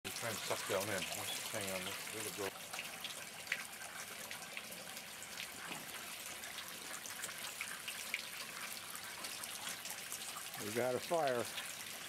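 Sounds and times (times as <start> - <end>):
water running and trickling: 0.0 - 12.0.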